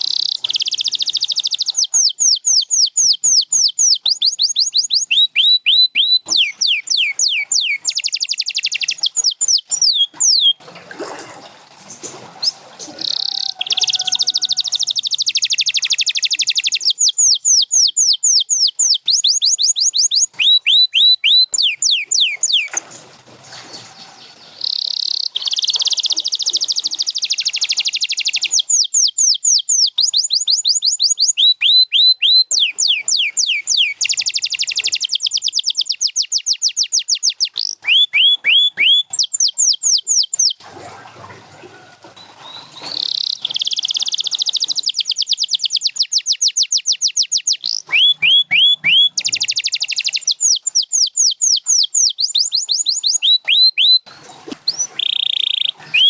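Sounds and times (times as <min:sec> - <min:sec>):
canary singing trills: 0:00.0 - 0:10.6, 0:12.4 - 0:22.9, 0:23.6 - 0:40.6, 0:41.8 - 0:56.0.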